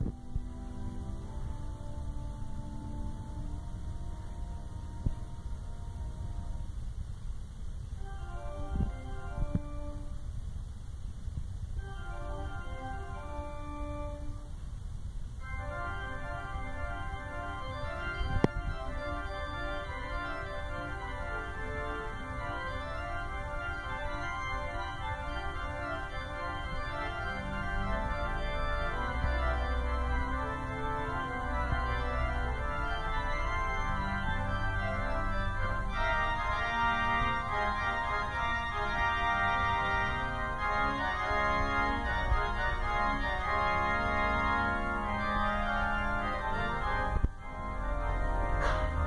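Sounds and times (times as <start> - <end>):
organ playing chords: 0.0 - 6.9, 8.0 - 10.3, 11.8 - 14.6, 15.4 - 49.0.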